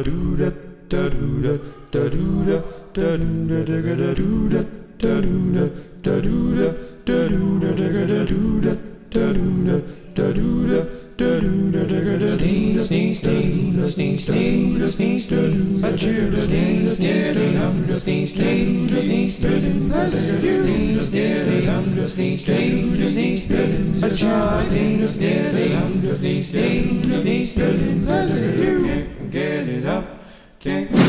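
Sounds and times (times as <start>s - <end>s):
voices singing together: 0.0s - 31.0s.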